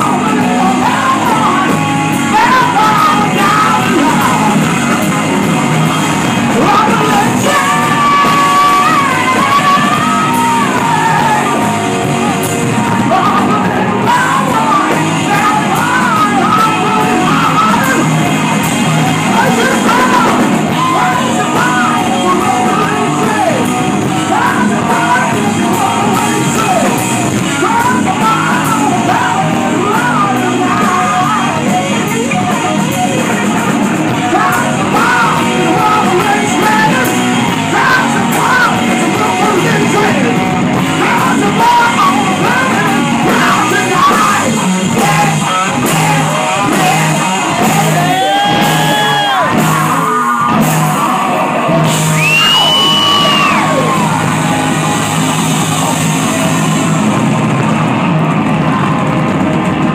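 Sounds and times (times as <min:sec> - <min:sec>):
man singing and yelling: 0:00.0 - 0:57.3
distorted electric guitar: 0:00.0 - 0:59.9
hard rock band playing: 0:00.0 - 0:59.9.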